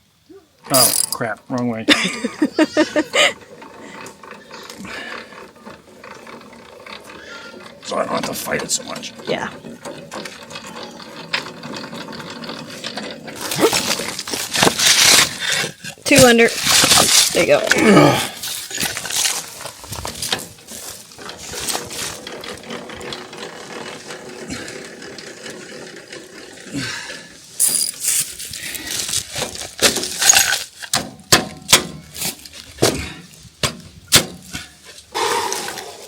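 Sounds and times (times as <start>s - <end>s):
parts clinking and knocking: 0.7s - 26.7s, 27.6s - 34.8s.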